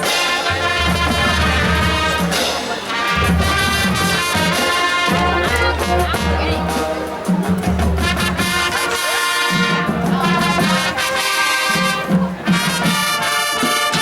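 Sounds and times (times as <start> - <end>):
low brass bass notes: 0.0 - 14.0
marching band playing: 0.0 - 14.0.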